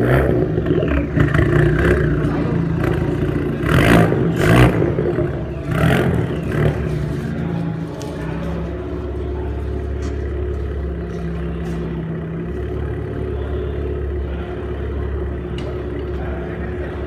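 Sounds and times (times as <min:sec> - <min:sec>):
car engine deep exhaust drone: 0:00.0 - 0:17.0.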